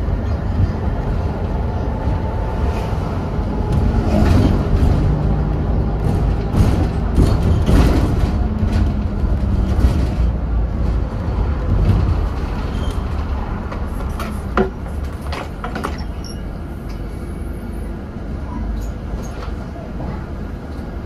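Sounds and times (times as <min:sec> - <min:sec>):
bus body rattling and knocking: 0:00.0 - 0:21.0
bus engine rumbling: 0:00.0 - 0:21.0.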